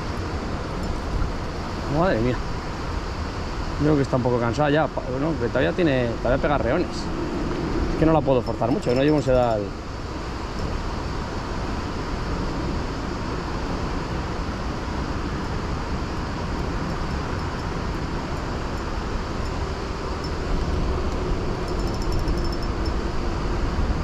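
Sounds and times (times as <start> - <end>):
river flowing: 0.0 - 24.0
road traffic rumble: 0.0 - 24.0.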